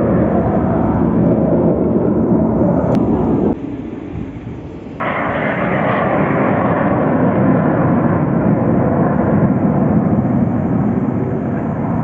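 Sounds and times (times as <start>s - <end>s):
jet aircraft roaring past: 0.0s - 12.0s.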